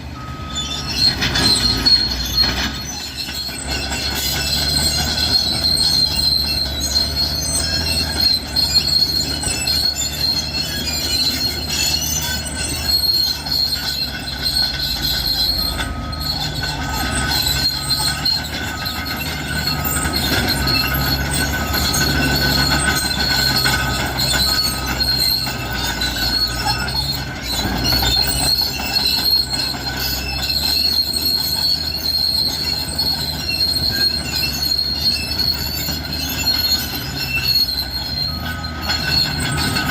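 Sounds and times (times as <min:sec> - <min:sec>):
bulldozer diesel engine running: 0:00.0 - 0:39.9
reversing alarm beeping: 0:00.0 - 0:39.9
steel tracks squealing: 0:00.0 - 0:39.9.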